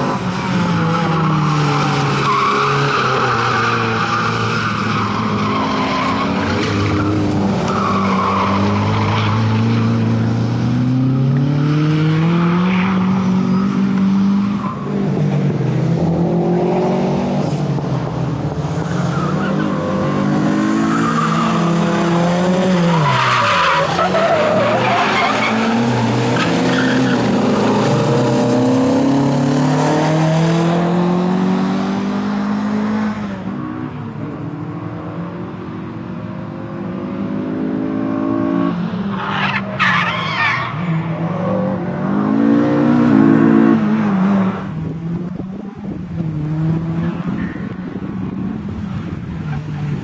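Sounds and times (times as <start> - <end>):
car engine revving: 0.0 - 33.5, 36.8 - 50.0.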